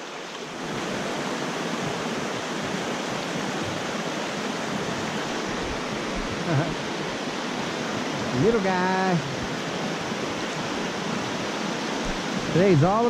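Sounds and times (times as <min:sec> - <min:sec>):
creek rushing over boulders: 0:00.0 - 0:13.0.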